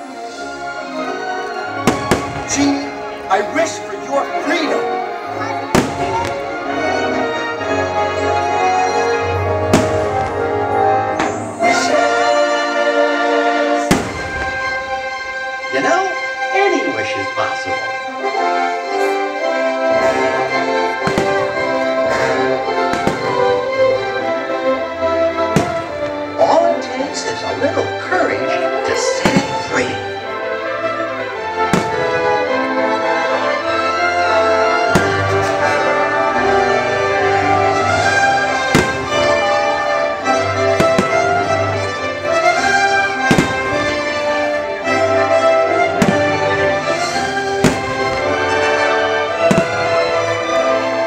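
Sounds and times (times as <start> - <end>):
loud orchestral music: 0.0 - 51.0
fireworks bursting with sharp bangs: 0.8 - 4.4, 5.4 - 12.4, 13.7 - 15.6, 19.5 - 28.0, 28.7 - 51.0.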